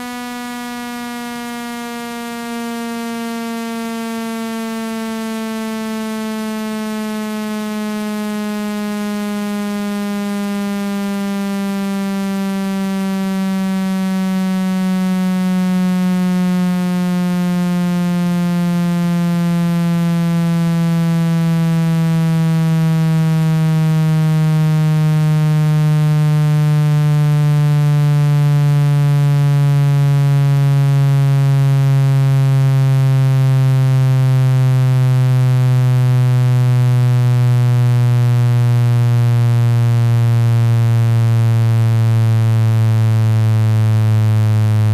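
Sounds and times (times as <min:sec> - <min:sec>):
buzzy low electronic tone: 0:00.0 - 0:44.9.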